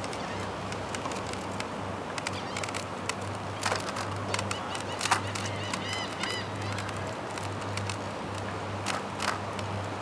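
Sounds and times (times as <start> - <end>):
bicycle rolling: 0.0 - 10.0
light ticks and rattles: 0.0 - 10.0.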